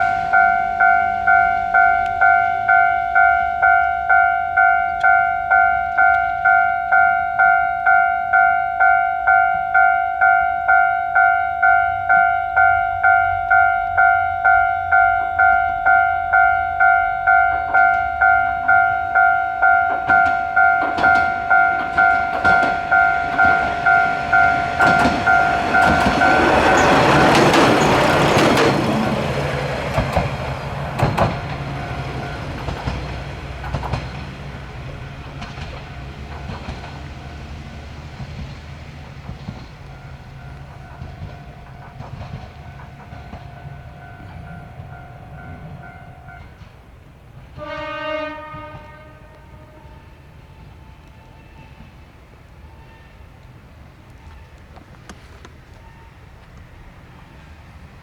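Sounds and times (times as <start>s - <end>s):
level crossing warning bell: 0.0s - 49.3s
diesel railcar rumbling: 0.0s - 58.0s
train clanking over crossing: 0.0s - 58.0s.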